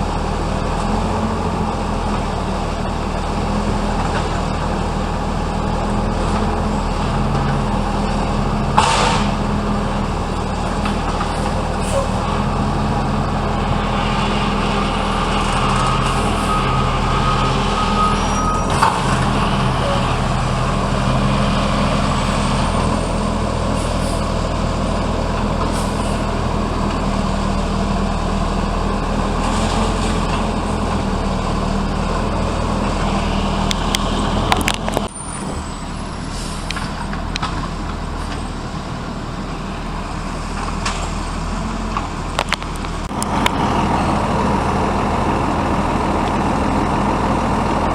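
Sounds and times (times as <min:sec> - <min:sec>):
garbage truck diesel engine running: 0:00.0 - 0:47.9.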